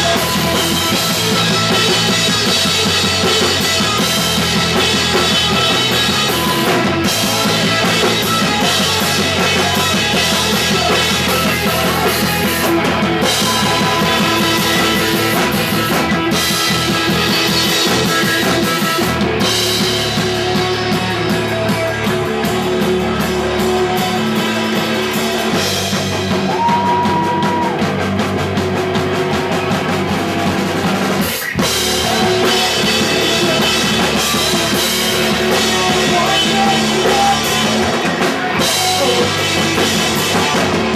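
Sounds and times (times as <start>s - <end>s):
punk rock band playing: 0.0s - 40.9s.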